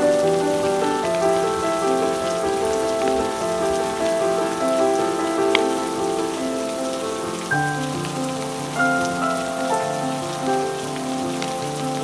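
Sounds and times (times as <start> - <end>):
soft music with held notes: 0.0 - 12.0
steady rain: 0.0 - 12.0.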